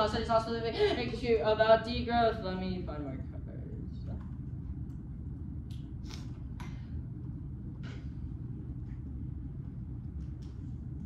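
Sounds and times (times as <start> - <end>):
low rumble of room noise: 0.0 - 11.0.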